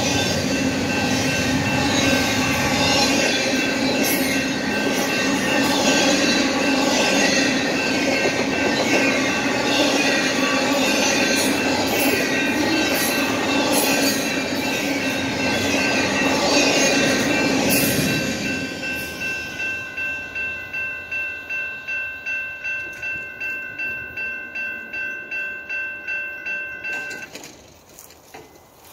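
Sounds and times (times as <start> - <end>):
freight cars rail noise: 0.0 - 28.9
railroad crossing bell ringing: 0.0 - 28.9.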